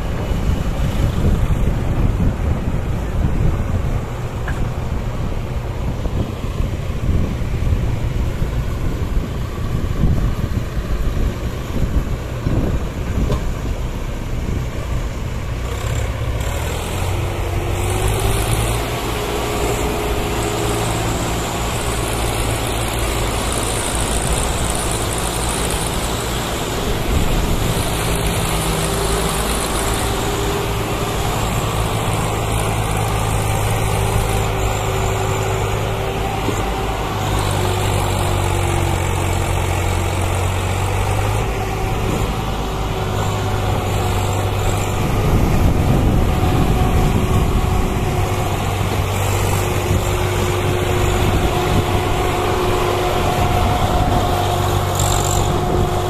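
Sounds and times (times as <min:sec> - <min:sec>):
tractor engine labouring: 0:00.0 - 0:56.0.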